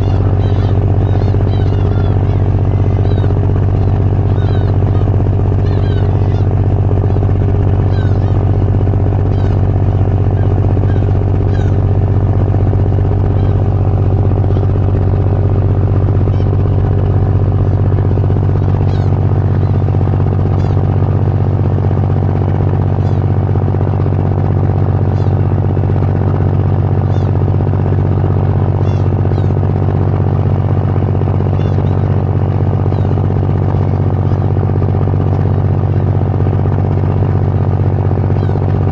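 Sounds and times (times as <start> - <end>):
ferry engine droning: 0.0 - 38.9.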